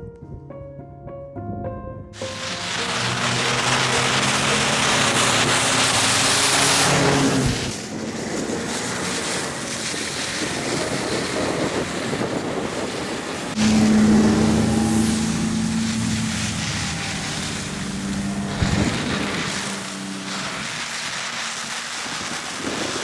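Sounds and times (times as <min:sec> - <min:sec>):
wind buffeting microphone: 0:00.0 - 0:23.0
snowmobile engine running: 0:02.2 - 0:23.0.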